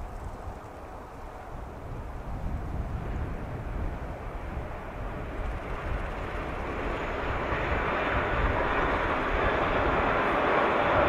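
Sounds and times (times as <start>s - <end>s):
electric train passing at speed: 0.0s - 11.0s.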